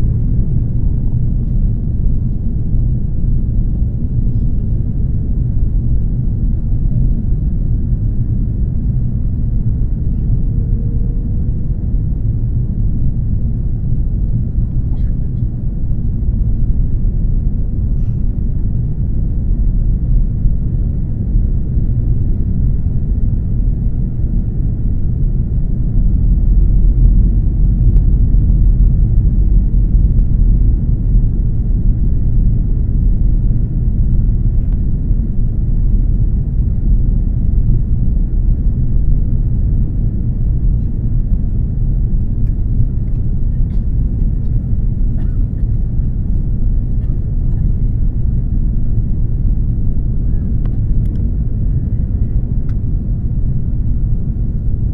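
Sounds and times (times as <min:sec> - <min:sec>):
airliner engine and airflow rumble: 0:00.0 - 0:54.9.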